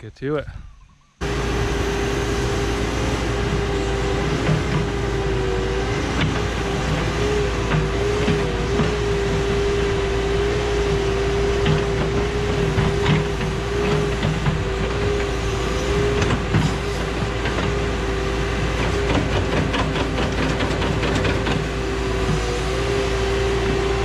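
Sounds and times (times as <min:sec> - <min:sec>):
excavator diesel engine whining: 0:01.2 - 0:24.0.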